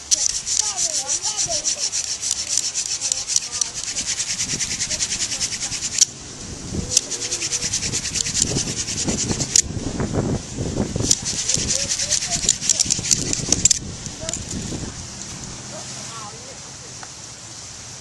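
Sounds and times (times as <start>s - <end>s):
hand drill wood rubbing: 0.0s - 15.9s.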